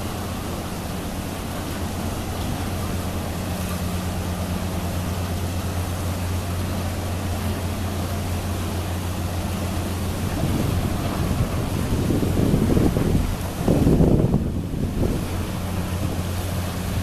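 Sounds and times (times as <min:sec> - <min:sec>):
ferry engines humming: 0:00.0 - 0:17.0
wind and water hiss: 0:00.0 - 0:17.0.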